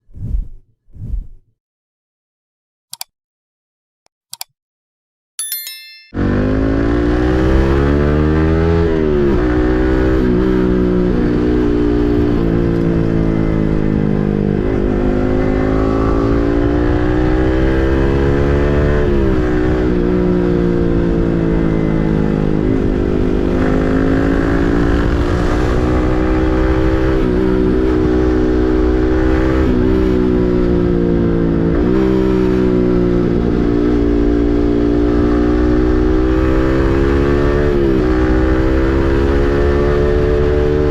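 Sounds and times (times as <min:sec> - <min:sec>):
motorcycle engine accelerating: 0:06.2 - 0:40.9.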